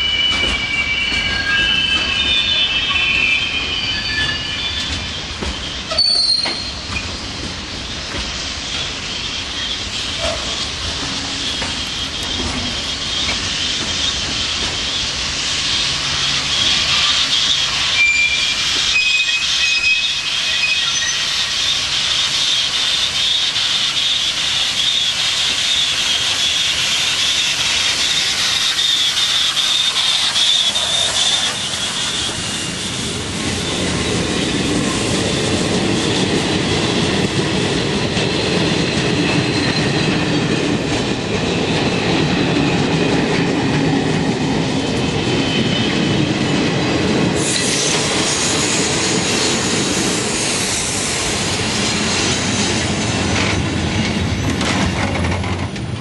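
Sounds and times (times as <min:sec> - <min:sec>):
steam locomotive squeal and hiss: 0:00.0 - 0:56.0
train wheels clickety-clack: 0:00.0 - 0:56.0.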